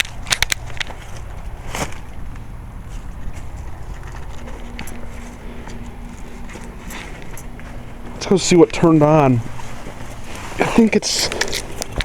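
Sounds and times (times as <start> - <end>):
background rumble: 0.0 - 12.0
heat pump humming: 0.0 - 12.0.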